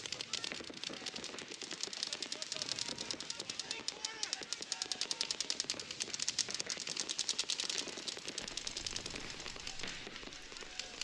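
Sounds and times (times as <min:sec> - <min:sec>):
paintball markers firing rapidly: 0:00.0 - 0:11.0.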